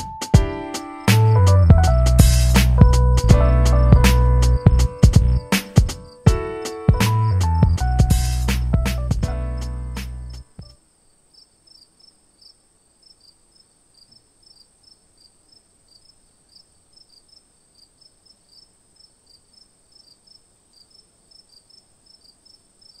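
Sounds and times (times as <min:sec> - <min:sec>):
crickets chirping: 0:03.6 - 0:23.0
high-pitched hiss: 0:03.7 - 0:23.0.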